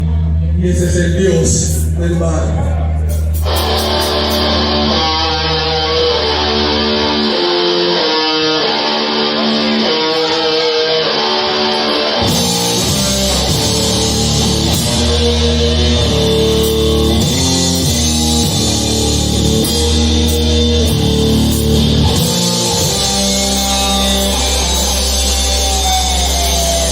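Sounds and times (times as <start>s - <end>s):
electric guitar riff: 0.0s - 26.9s
rock band playing live: 1.5s - 26.9s.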